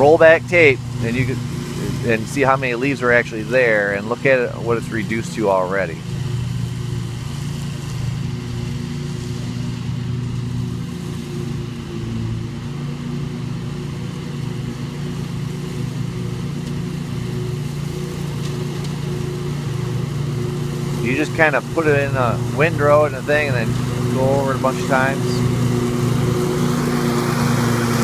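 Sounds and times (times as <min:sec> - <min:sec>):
lawn mower engine humming: 0:00.0 - 0:28.0
mower deck cutting leaves: 0:00.0 - 0:28.0.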